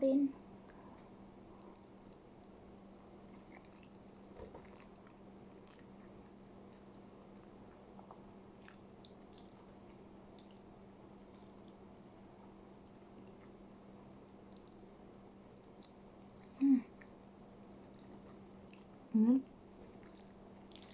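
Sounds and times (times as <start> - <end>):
steady low hum: 0.0 - 20.9
faint chewing: 0.6 - 20.9.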